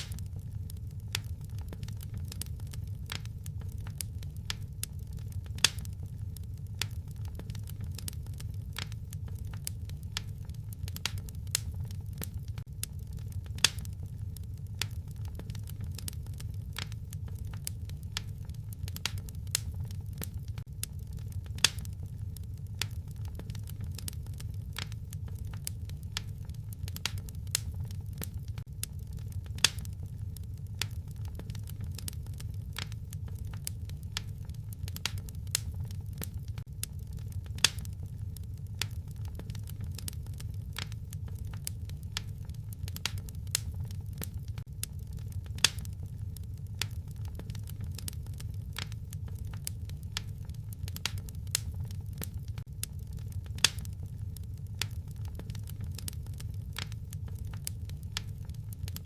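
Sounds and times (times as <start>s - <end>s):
fire crackling: 0.0s - 59.0s
low rumble of flames: 0.0s - 59.0s
sharp snaps and pops: 0.0s - 59.0s.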